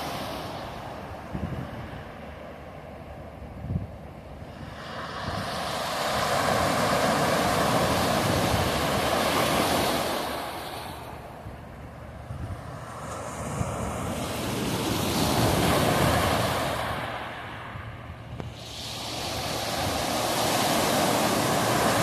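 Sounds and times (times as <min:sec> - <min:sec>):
waves washing up pebble beach: 0:00.0 - 0:02.0, 0:04.4 - 0:11.3, 0:12.5 - 0:22.0.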